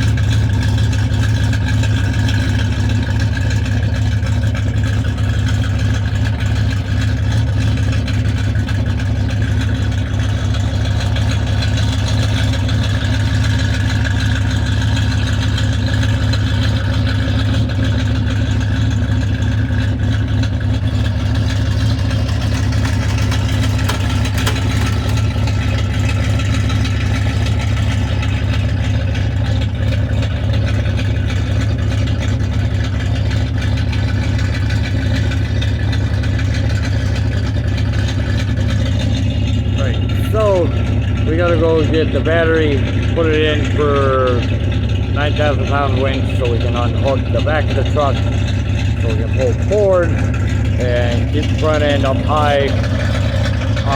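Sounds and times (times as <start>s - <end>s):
large vehicle engine idling: 0.0s - 53.9s.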